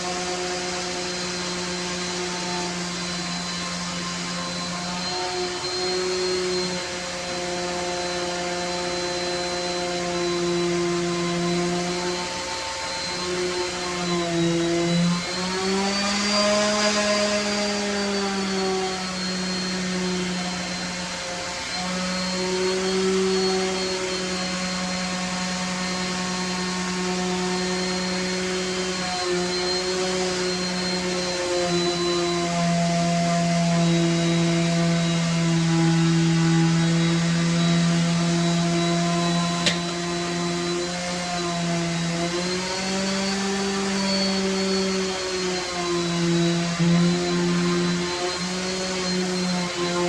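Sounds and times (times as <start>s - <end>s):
electric motor humming and whining: 0.0s - 50.0s.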